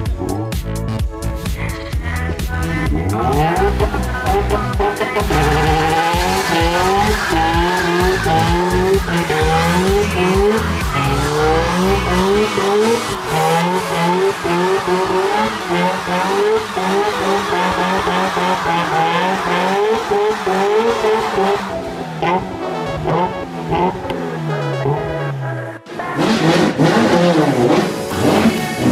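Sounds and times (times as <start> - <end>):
engine revving hard: 2.6 - 28.9.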